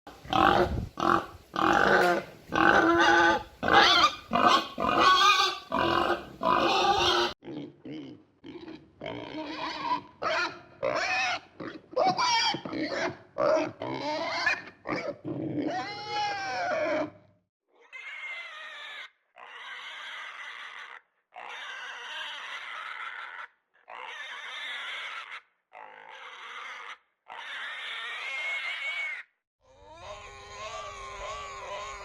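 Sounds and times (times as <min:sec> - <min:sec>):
pig calling: 0:00.2 - 0:17.2, 0:17.8 - 0:32.0.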